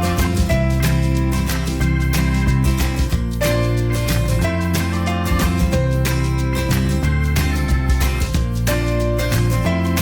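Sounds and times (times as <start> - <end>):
upbeat music with plucked guitar: 0.0 - 10.0.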